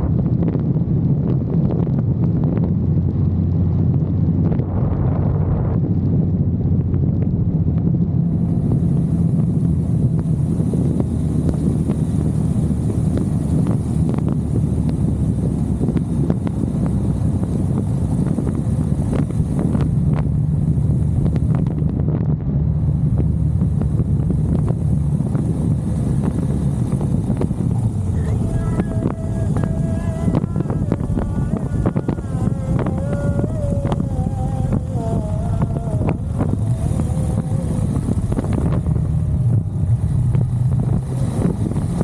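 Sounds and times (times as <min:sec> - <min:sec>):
motorcycle engine cruising: 0:00.0 - 0:42.0
wind rushing over microphone: 0:00.0 - 0:42.0.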